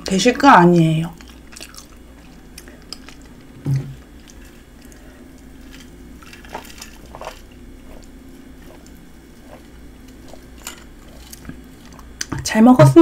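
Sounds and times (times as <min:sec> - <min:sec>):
person chewing food: 0:01.1 - 0:12.3.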